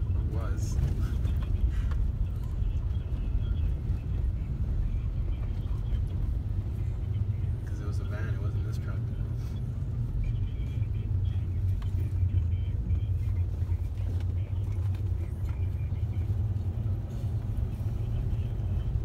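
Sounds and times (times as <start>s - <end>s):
car driving road rumble: 0.0s - 19.0s.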